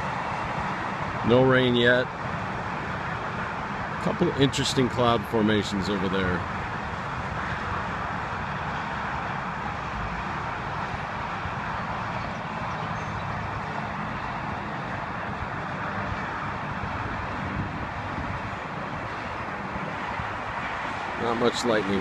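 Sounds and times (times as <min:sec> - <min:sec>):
highway traffic hum: 0:00.0 - 0:22.0.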